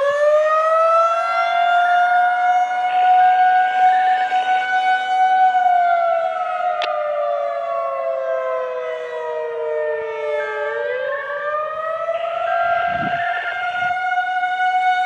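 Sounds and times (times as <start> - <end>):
rotating siren rising and falling: 0.0 - 15.0.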